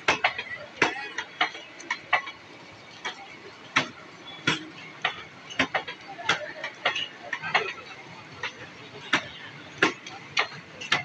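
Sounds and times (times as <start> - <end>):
train wheels clacking over rail joints: 0.0 - 11.0.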